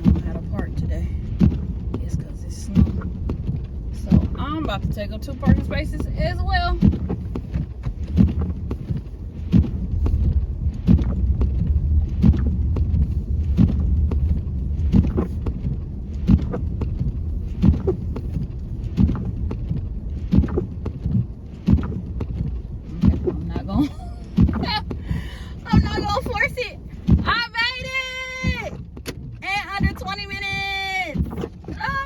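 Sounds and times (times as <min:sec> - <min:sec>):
car cabin rumble: 0:00.0 - 0:32.0.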